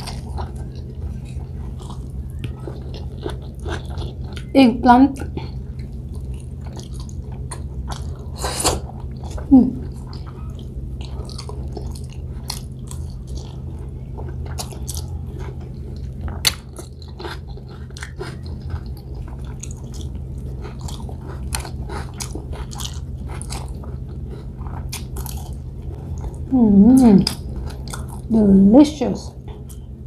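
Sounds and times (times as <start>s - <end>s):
person chewing food: 0.0s - 4.5s, 5.2s - 28.3s, 29.4s - 30.0s
steady low hum: 0.0s - 30.0s.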